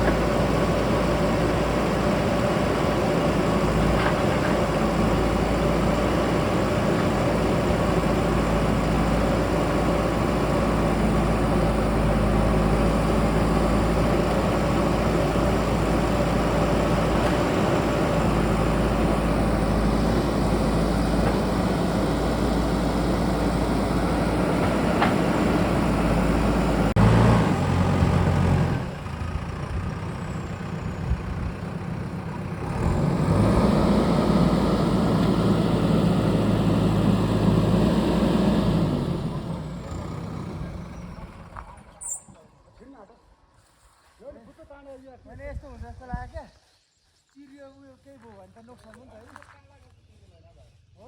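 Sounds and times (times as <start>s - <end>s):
backhoe diesel engine running: 0.0s - 42.7s.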